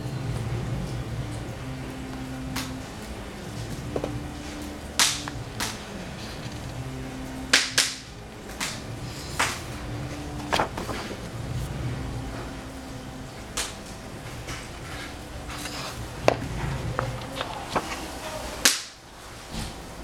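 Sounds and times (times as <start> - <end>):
low background hum: 0.0 - 20.0
book pages being turned: 2.0 - 18.8.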